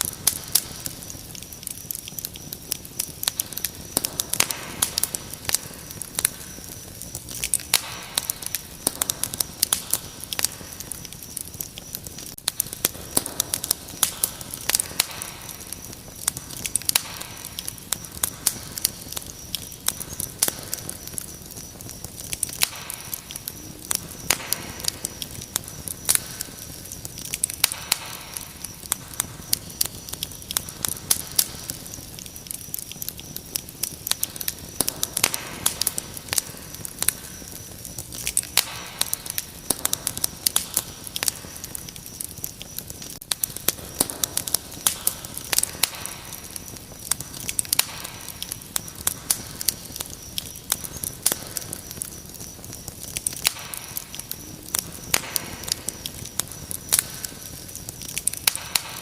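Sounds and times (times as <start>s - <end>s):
crickets chirring: 0.0s - 59.0s
wood fire crackling: 0.0s - 59.0s.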